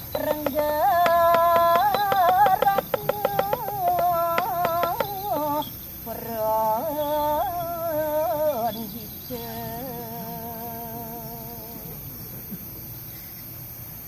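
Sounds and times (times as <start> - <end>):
high voice chanting: 0.0 - 12.2.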